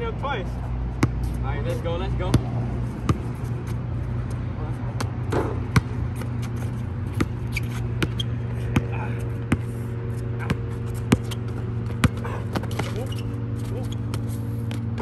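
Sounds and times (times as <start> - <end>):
sneakers scraping on court: 0.6 - 15.0
basketball bouncing on asphalt: 0.7 - 15.0.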